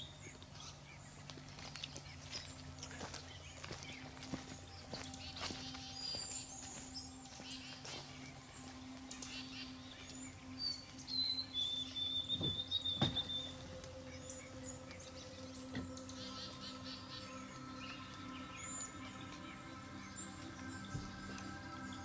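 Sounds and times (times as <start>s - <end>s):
faint low hum: 0.0s - 22.0s
songbirds chirping: 0.0s - 22.0s.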